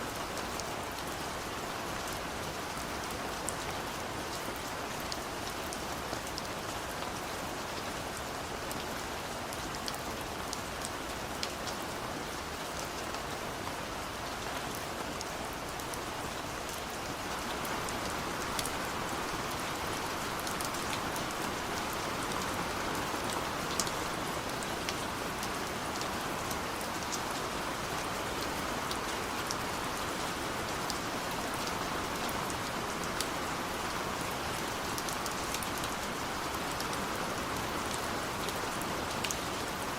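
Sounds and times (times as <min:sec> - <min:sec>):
raindrops ticking on surfaces: 0:00.0 - 0:39.9.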